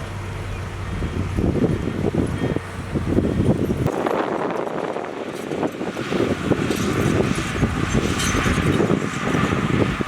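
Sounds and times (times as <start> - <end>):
heavy machinery rumbling: 0.0 - 10.0
machinery clatter: 0.8 - 10.0.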